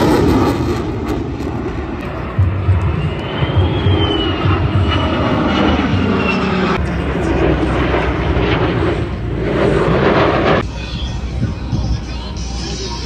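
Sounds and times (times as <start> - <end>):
jet engines rumbling overhead: 0.0 - 13.0.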